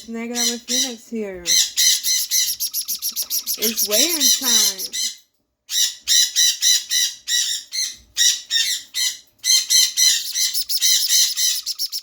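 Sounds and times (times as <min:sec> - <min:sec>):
chick high-pitched chirps: 0:00.3 - 0:12.0.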